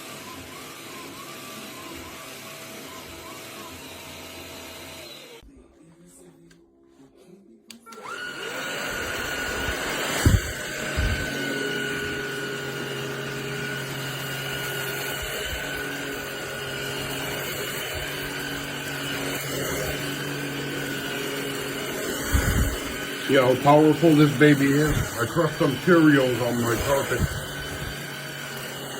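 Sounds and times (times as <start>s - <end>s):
vacuum cleaner motor whining: 0.0s - 5.4s, 7.7s - 28.9s.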